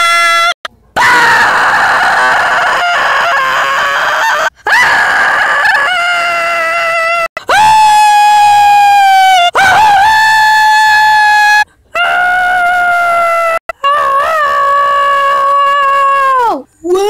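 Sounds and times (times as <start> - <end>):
cartoon character screaming: 0.0 - 17.0.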